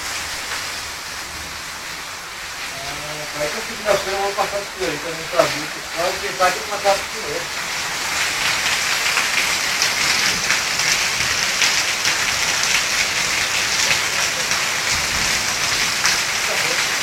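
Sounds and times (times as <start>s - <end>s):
rain pattering on surfaces: 0.0s - 17.0s.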